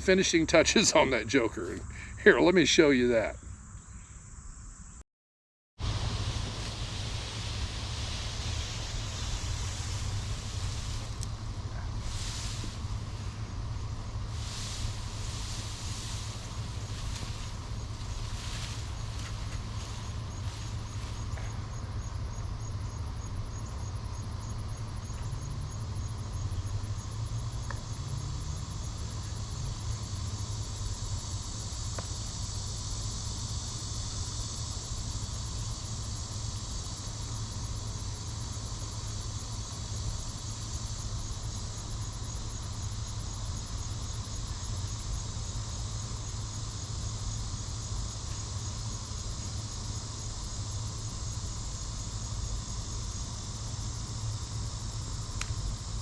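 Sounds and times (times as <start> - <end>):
insects trilling: 0.0 - 5.0, 5.8 - 56.0
low steady hum: 5.8 - 56.0.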